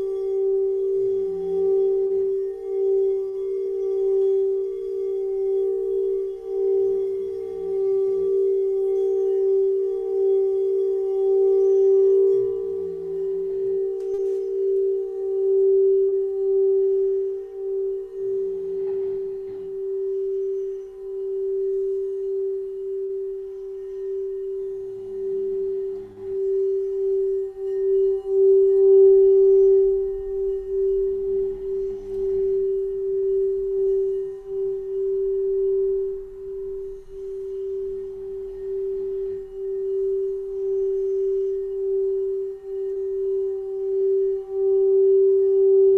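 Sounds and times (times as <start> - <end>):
singing bowl tone: 0.0 - 45.9.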